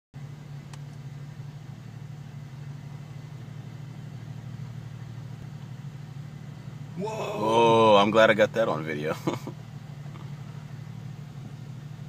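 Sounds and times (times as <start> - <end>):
engine idling: 0.2 - 12.0.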